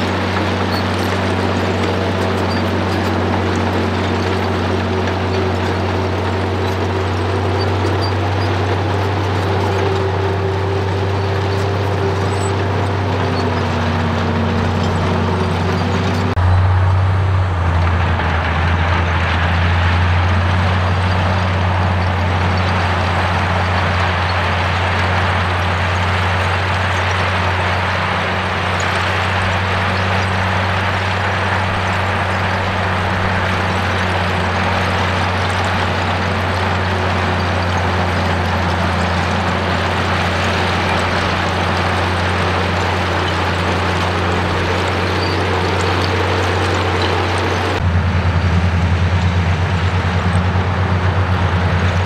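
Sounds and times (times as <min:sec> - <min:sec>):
bulldozer diesel engine droning: 0:00.0 - 0:52.0.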